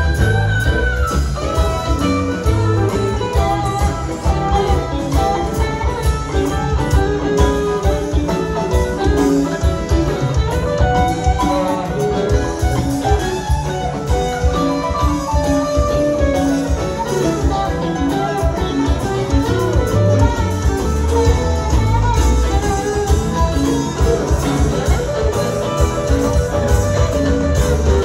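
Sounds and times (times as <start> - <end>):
bass guitar: 0.0 - 28.0
drums: 0.0 - 28.0
electric guitar: 0.0 - 28.0
keyboards: 0.0 - 28.0.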